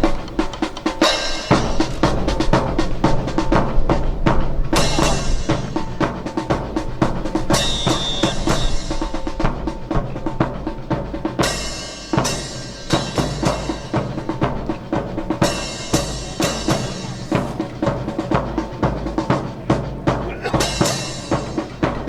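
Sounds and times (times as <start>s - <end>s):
fast snare and bass drum beat: 0.0s - 22.0s.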